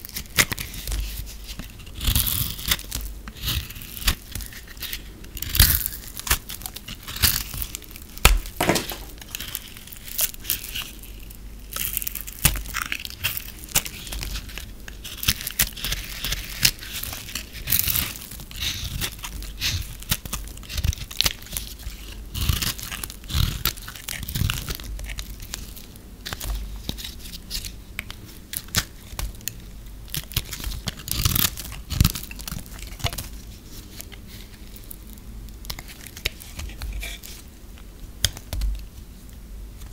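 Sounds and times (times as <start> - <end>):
knife shaving hard soap: 0.0 - 29.3, 30.1 - 37.5.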